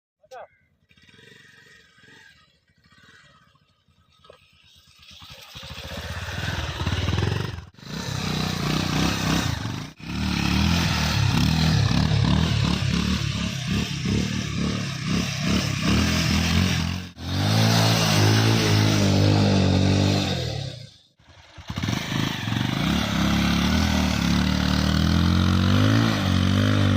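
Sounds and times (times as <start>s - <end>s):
motorcycle engine revving: 0.6s - 26.9s.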